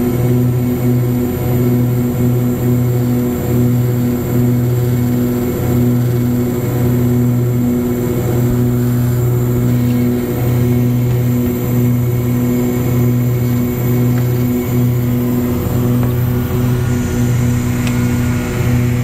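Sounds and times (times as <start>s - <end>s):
light airplane engine droning: 0.0s - 19.0s.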